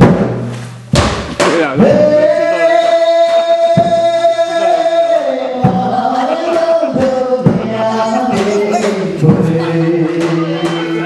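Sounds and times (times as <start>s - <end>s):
slow drum beats: 0.0s - 11.0s
person singing: 1.8s - 11.0s.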